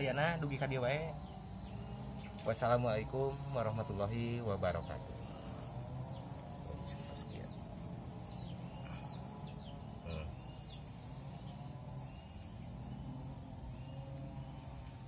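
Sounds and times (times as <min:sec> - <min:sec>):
birds chirping: 0:00.0 - 0:15.0
insects droning: 0:00.0 - 0:15.0.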